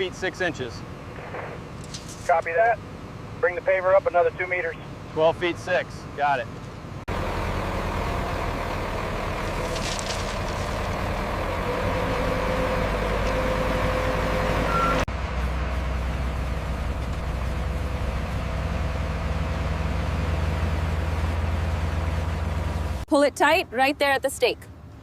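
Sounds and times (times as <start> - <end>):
heavy machinery diesel engines running: 0.0 - 25.0.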